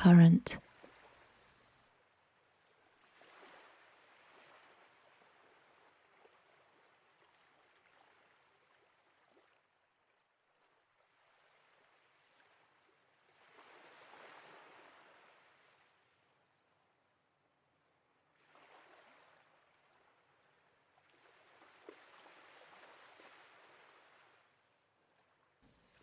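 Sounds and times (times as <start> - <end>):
small waves lapping at a wall: 0.6 - 26.0.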